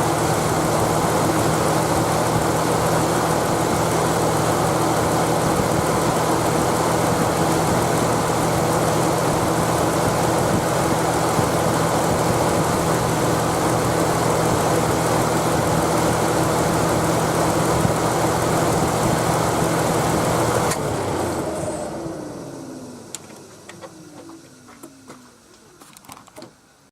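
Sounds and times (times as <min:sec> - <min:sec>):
car engine idling: 0:00.0 - 0:23.1.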